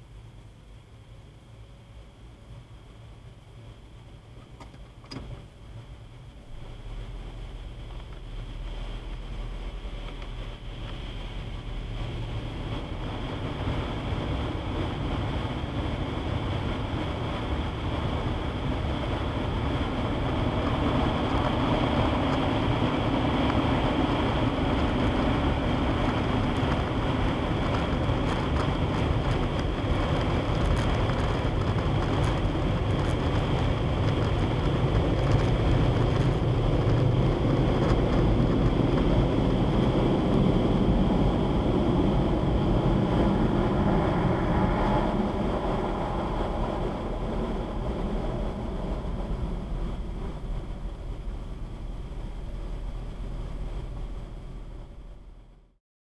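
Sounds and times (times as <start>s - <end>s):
low vehicle rumble: 0.0s - 55.8s
rushing noise inside car: 0.0s - 55.8s.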